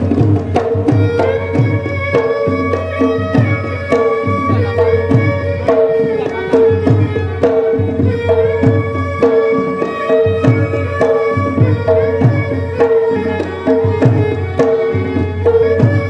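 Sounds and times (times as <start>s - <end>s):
instrumental dance music: 0.0s - 16.0s.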